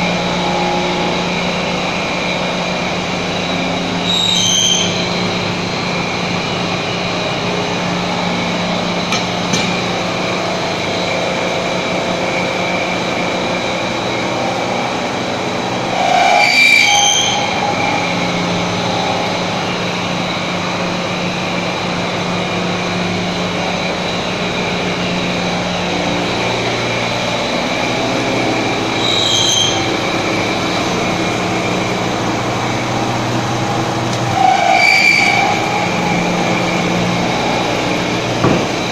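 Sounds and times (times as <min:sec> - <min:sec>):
grinder humming with high whine: 0:00.0 - 0:38.9
metallic squeals: 0:00.0 - 0:38.9.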